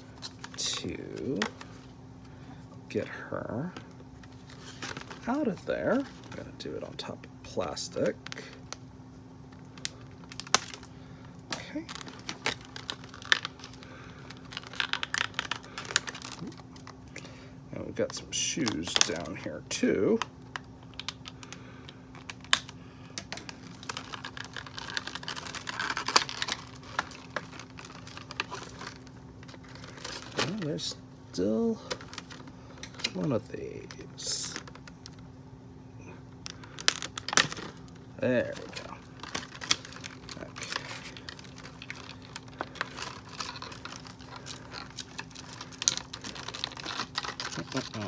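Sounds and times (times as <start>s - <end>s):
plastic packaging crackling: 0.0s - 35.3s, 36.3s - 48.0s.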